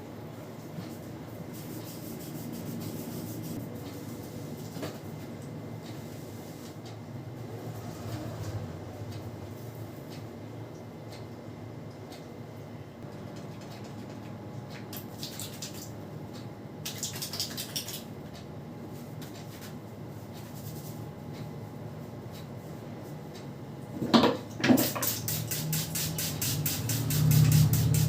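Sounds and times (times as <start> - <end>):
steady low hum: 0.0 - 16.9, 18.1 - 28.0.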